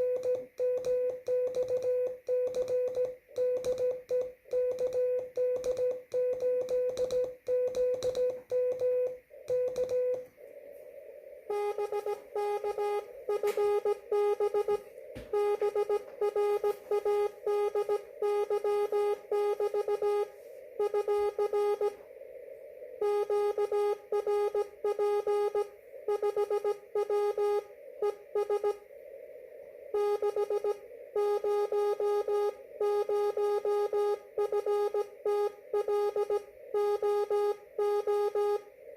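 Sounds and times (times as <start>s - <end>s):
morse code beeps: 0.0s - 10.3s, 11.5s - 22.0s, 23.0s - 28.8s, 29.9s - 38.8s
radio receiver hiss: 0.0s - 38.9s.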